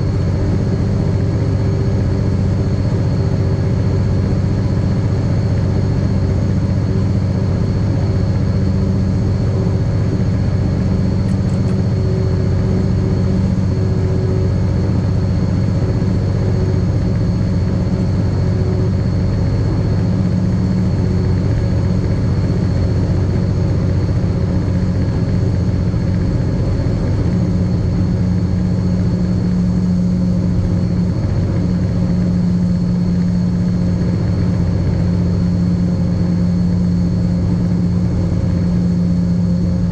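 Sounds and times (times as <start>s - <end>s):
locomotive engine droning: 0.0s - 39.9s
thin steady whine: 0.0s - 39.9s.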